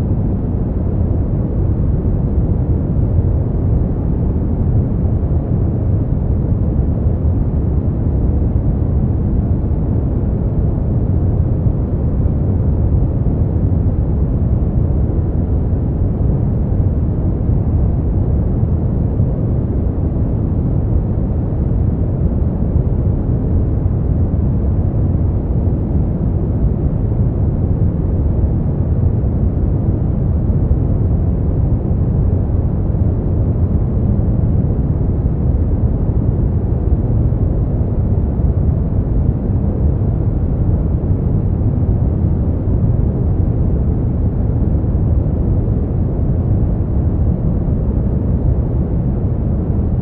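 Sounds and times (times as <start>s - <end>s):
deep rushing brown noise: 0.0s - 50.0s.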